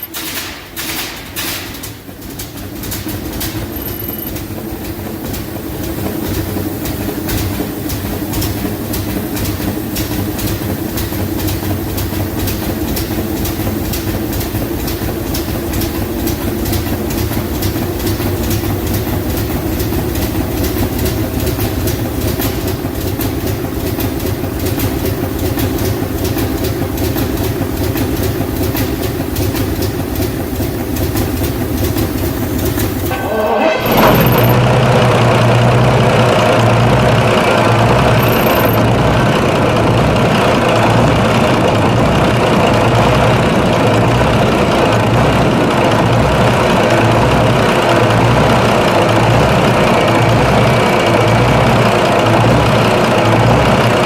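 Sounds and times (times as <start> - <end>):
large engine running: 0.0 - 54.0.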